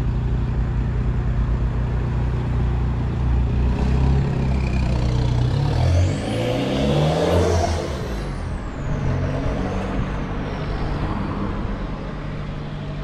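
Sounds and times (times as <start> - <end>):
diesel car engine idling and pulling away: 0.0 - 13.0.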